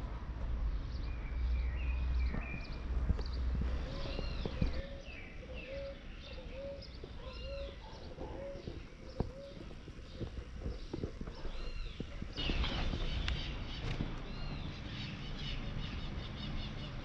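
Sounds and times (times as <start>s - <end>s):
bird calling: 2.3s - 17.0s.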